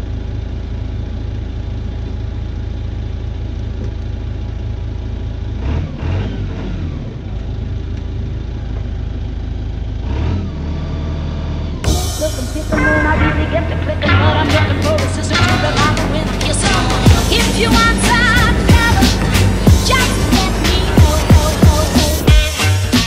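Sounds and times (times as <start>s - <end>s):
forklift engine idling and revving: 0.0s - 23.0s.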